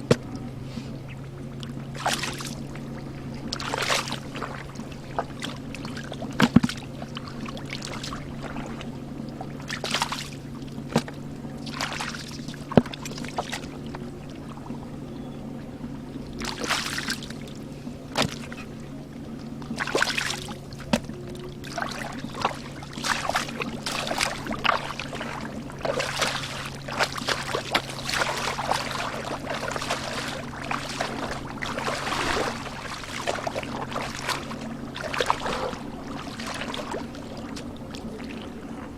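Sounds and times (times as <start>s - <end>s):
steady low hum: 0.0s - 38.9s
water splashing and sloshing: 0.0s - 38.9s.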